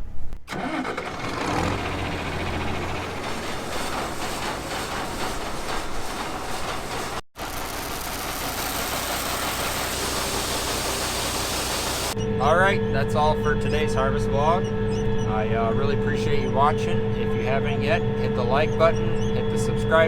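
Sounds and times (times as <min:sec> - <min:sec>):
farm machinery engine rattling: 0:00.5 - 0:20.0
hissy machine running noise: 0:01.8 - 0:20.0.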